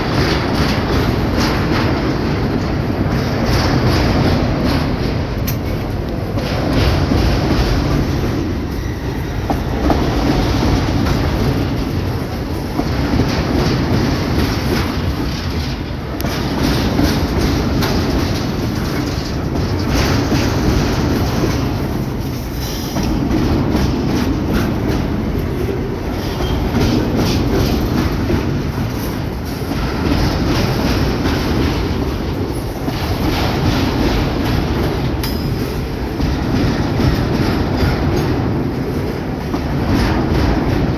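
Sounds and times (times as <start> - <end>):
train wheels clacking over rail joints: 0.0 - 40.9.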